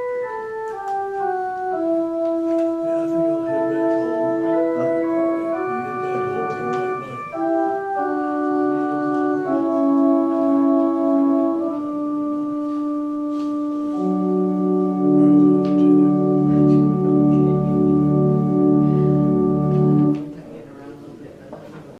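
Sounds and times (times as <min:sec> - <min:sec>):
organ playing sustained chords: 0:00.0 - 0:20.4.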